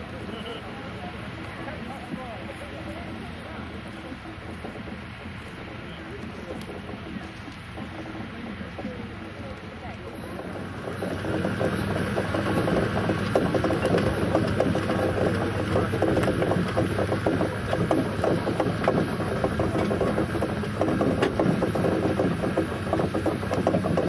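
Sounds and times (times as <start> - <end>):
cable drum gearing clattering: 0.0 - 24.0.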